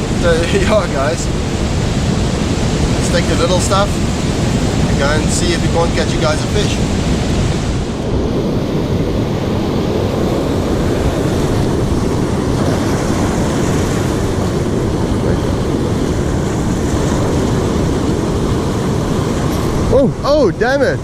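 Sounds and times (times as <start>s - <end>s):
breaking surf: 0.0s - 21.0s
wind buffeting microphone: 0.0s - 21.0s.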